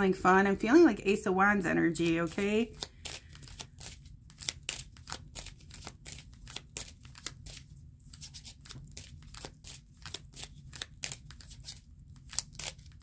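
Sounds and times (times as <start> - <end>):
cards being shuffled: 2.0 - 13.0.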